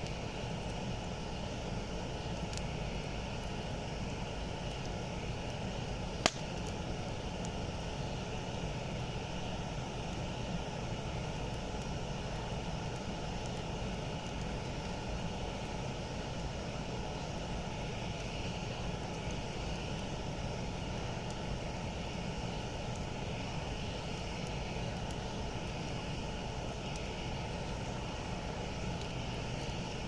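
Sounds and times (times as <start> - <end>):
campfire rumbling: 0.0 - 30.0
faint fire crackles: 0.0 - 30.0.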